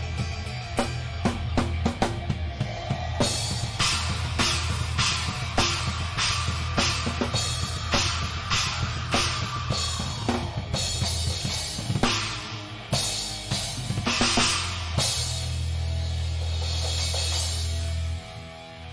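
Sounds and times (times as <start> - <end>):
bass drum: 0.0 - 18.2
live rock band: 0.0 - 18.9
cymbal crashes: 2.6 - 18.2.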